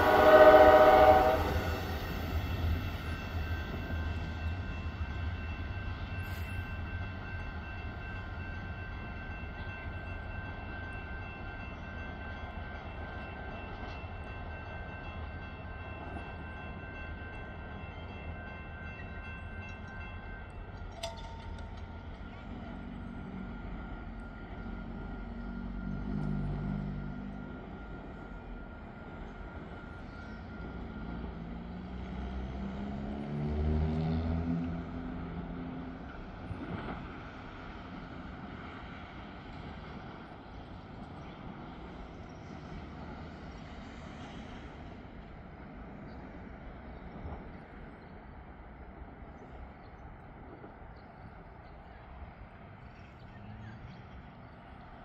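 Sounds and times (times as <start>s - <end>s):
cars crossing railroad tracks: 0.0s - 55.0s.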